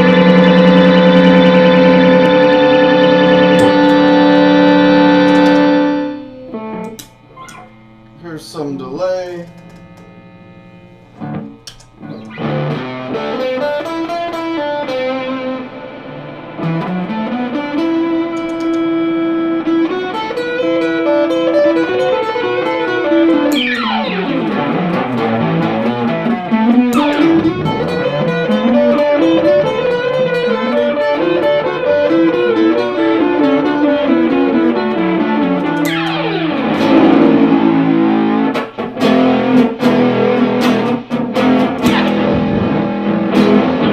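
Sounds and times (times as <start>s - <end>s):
electric guitar with synth pedal: 0.0s - 43.9s.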